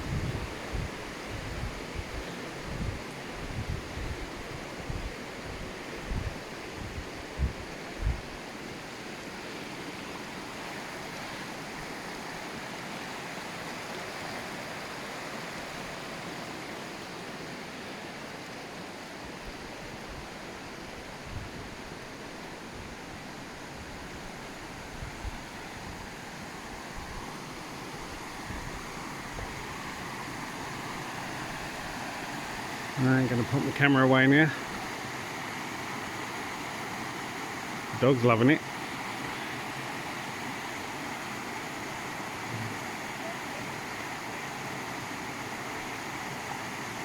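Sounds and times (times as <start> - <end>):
rushing waterfall water: 0.0 - 47.0.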